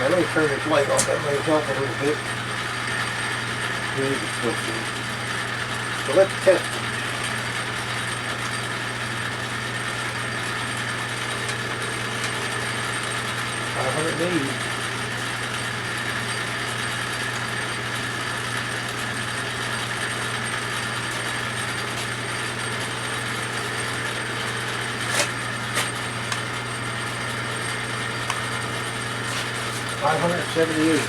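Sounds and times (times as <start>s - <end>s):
metal lathe running: 0.0s - 31.0s.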